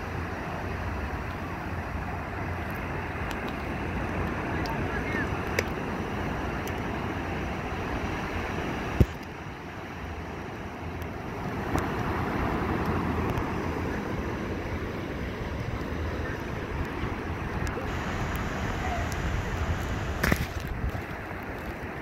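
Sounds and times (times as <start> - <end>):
surf breaking on beach: 0.0 - 22.0
wind blowing across microphone: 0.0 - 22.0.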